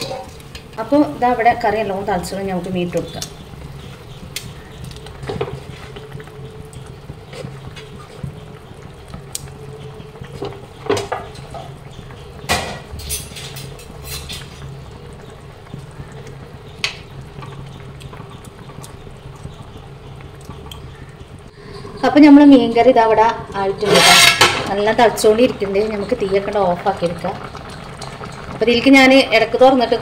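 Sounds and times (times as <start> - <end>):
curry bubbling in a pot: 0.0 - 30.0.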